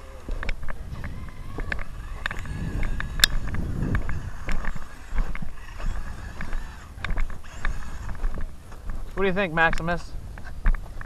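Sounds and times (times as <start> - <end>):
electric motor whine: 0.0 - 9.1
footsteps crunching in snow: 0.1 - 11.0.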